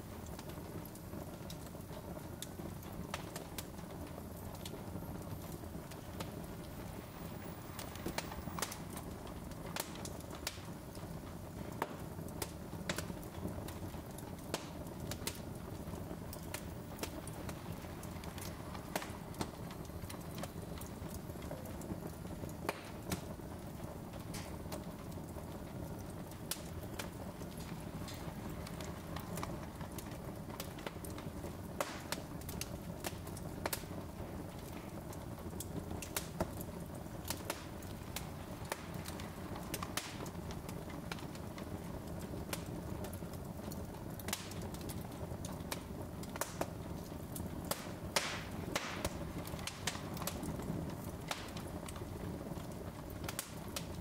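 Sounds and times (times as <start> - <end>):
fire crackling and popping: 0.0 - 54.0
low sound of flames: 0.0 - 54.0.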